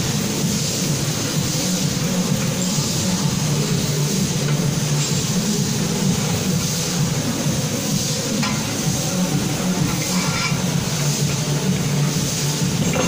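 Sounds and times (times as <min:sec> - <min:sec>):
factory machinery hum: 0:00.0 - 0:13.0.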